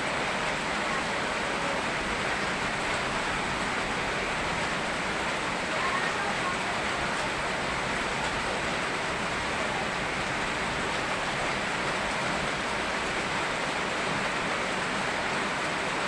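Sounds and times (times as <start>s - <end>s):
rushing river water: 0.0s - 16.0s
steady rain: 0.0s - 16.0s.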